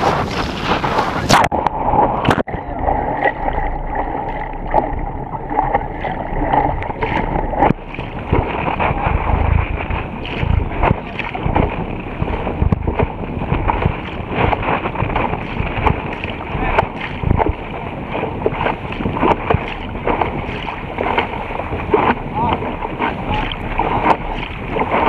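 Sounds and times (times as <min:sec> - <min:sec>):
wind noise on microphone: 0:00.0 - 0:03.6, 0:04.2 - 0:25.0
water rushing at boat bow: 0:00.0 - 0:25.0
waves slapping against hull: 0:00.0 - 0:25.0.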